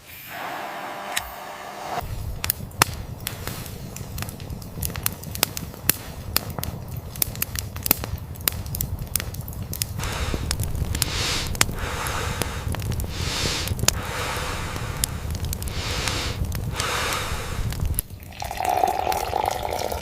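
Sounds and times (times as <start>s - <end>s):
wood fire crackling: 1.9s - 20.0s
sharp pops from fire: 2.0s - 20.0s.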